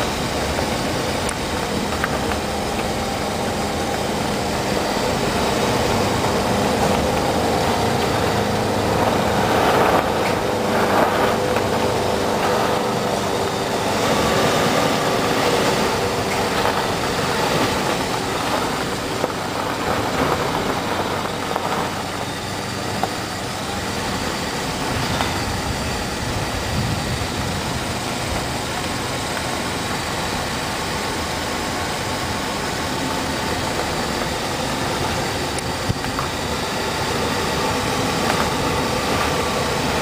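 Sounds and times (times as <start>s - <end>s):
car engine hum: 0.0s - 40.0s
tyre and road rumble: 0.0s - 40.0s.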